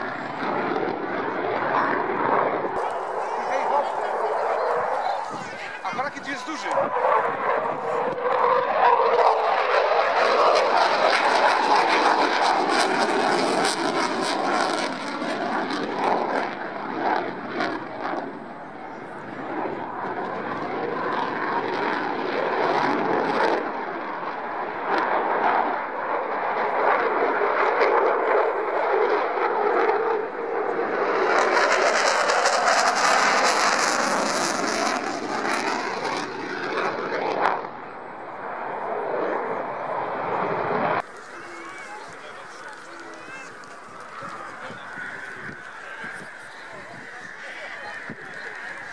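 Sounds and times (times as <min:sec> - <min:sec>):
jet flying past: 0:00.0 - 0:48.9.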